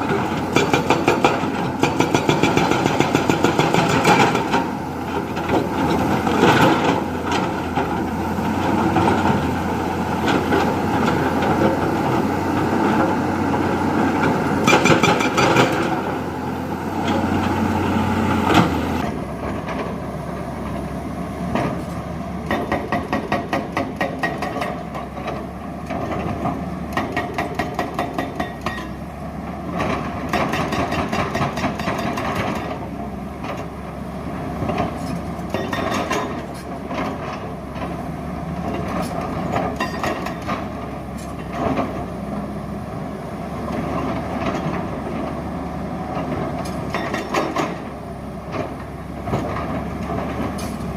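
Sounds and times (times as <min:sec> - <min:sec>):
backhoe diesel engine running: 0:00.0 - 0:50.9.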